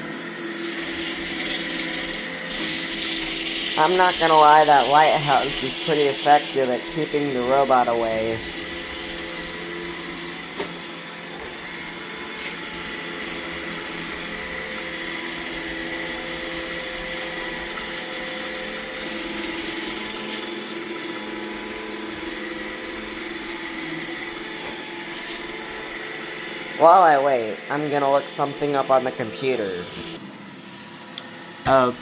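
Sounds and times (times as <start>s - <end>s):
robot vacuum motor whine: 0.0s - 30.2s.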